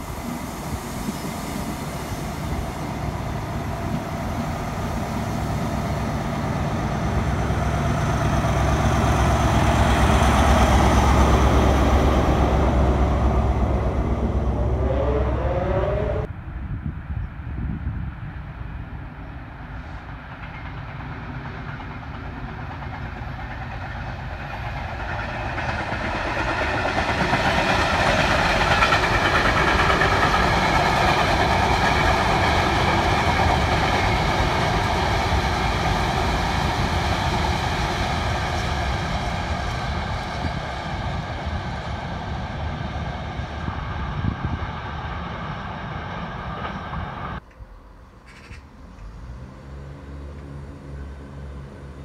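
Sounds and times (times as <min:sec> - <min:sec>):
diesel freight train passing: 0:00.0 - 0:52.0.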